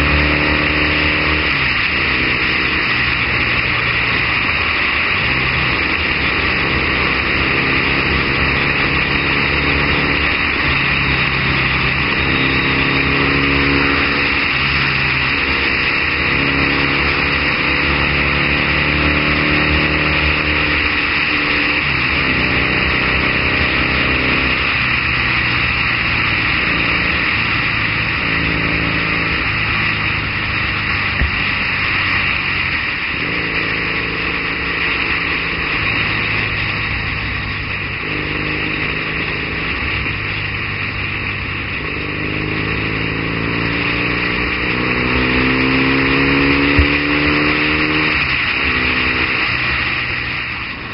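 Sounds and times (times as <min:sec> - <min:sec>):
motorcycle engine under way: 0:00.0 - 0:50.9.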